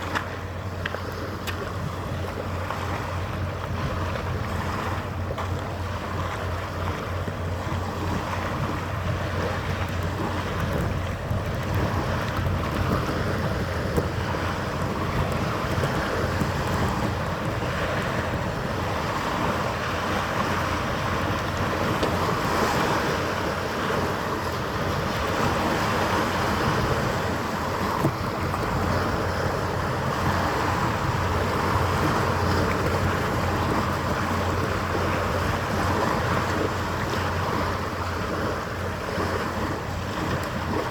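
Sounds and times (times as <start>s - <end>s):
low machinery hum: 0.0s - 40.9s
wind: 0.0s - 40.9s.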